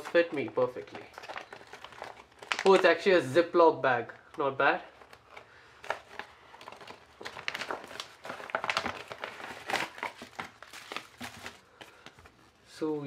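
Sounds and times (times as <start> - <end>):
plastic bag crinkling: 0.0 - 3.4, 4.9 - 12.1.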